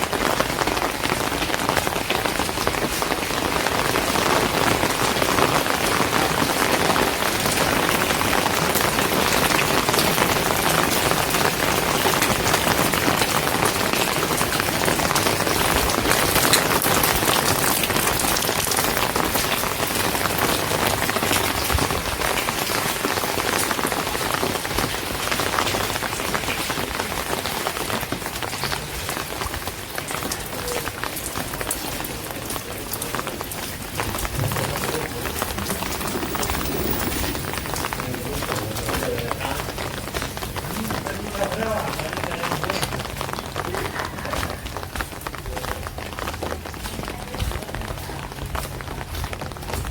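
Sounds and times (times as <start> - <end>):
rain on hard surfaces: 0.0 - 49.9.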